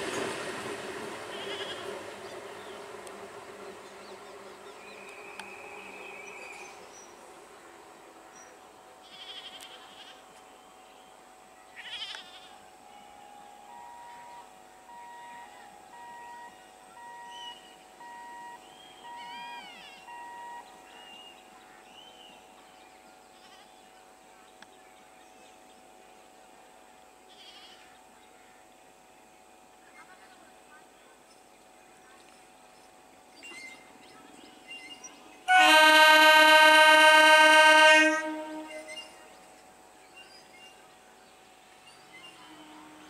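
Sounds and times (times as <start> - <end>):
faint train hum: 0.0 - 43.0.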